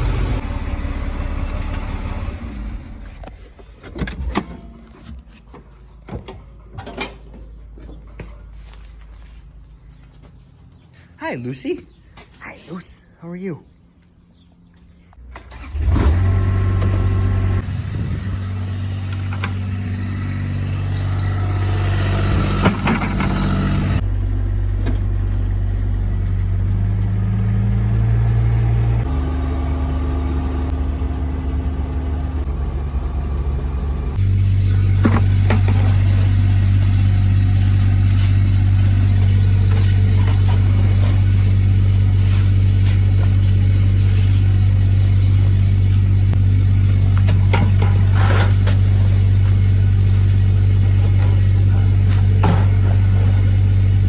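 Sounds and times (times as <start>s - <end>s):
vehicle engine humming: 0.0s - 6.0s, 13.0s - 54.0s.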